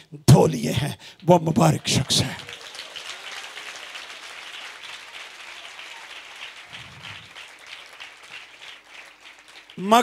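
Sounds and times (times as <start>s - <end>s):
crowd applauding: 1.3s - 10.0s.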